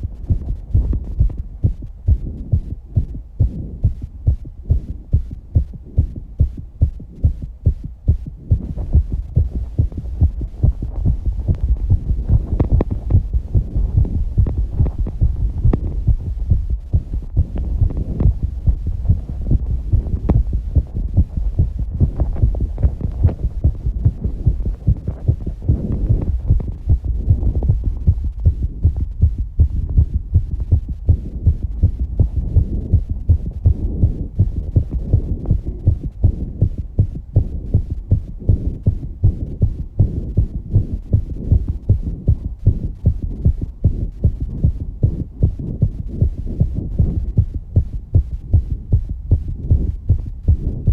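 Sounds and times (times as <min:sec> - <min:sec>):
fast heartbeat thumps: 0:00.0 - 0:50.9
low hum: 0:00.0 - 0:50.9.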